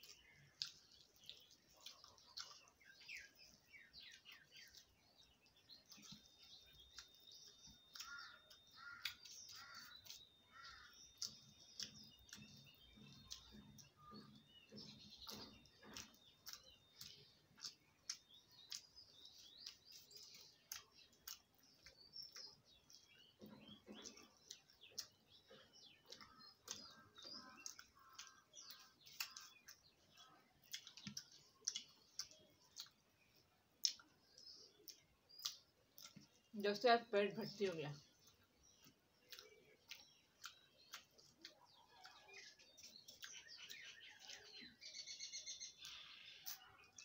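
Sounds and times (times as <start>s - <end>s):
chewing clicks: 0.0s - 36.6s, 38.0s - 47.0s
small birds chirping faintly: 0.0s - 47.0s.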